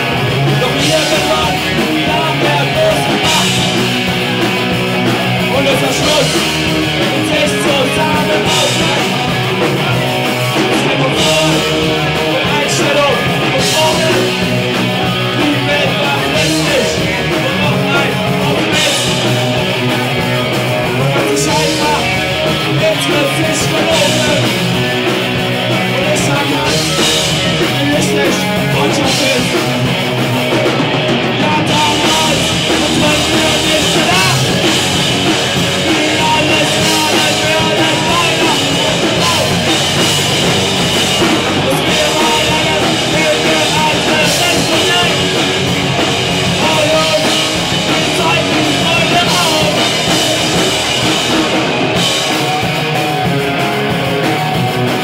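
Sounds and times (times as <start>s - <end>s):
rock band playing loud: 0.0s - 55.0s.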